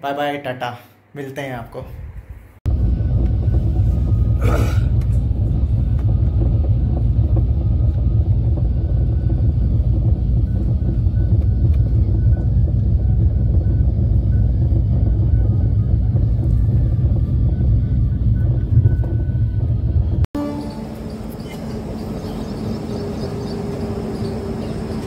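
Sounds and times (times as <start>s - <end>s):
train wheels rumbling on track: 2.7s - 25.0s.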